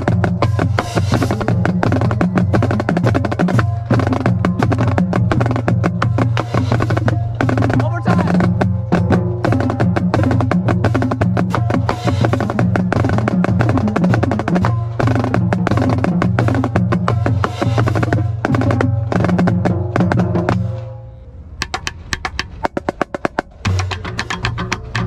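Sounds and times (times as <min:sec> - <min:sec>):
marching snare drum cadence: 0:00.0 - 0:20.9, 0:21.6 - 0:25.0
pitched drums: 0:00.0 - 0:25.0.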